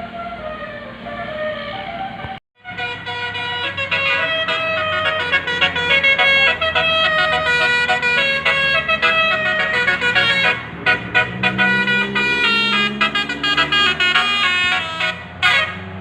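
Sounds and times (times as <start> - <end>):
low engine hum: 0.0 - 16.0
multi-tone air horn melody: 1.2 - 16.0.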